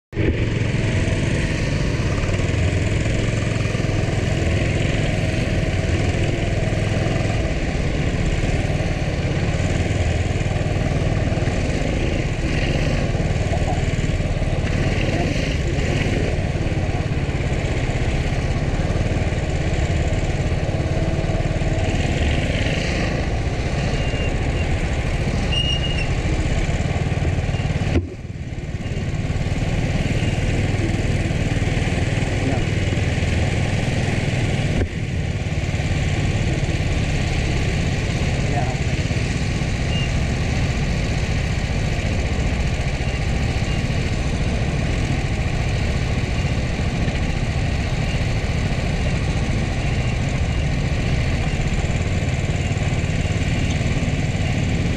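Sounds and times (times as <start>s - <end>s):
go-kart engine running: 0.2s - 54.9s.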